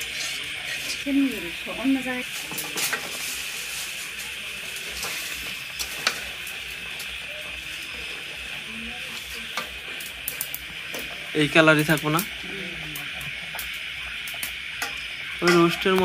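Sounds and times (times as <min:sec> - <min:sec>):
chicken sizzling in a wok: 0:00.0 - 0:16.0.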